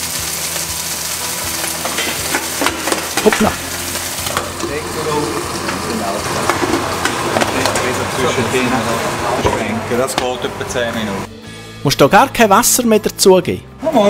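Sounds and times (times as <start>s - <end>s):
frying pan sizzling: 0.0s - 11.3s.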